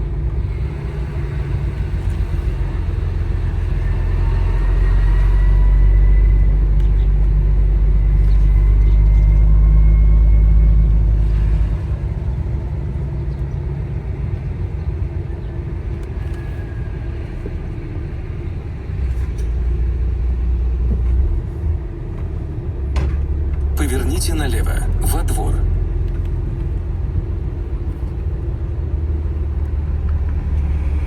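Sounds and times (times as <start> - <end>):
truck diesel engine rumbling: 0.0 - 15.5, 19.6 - 31.0.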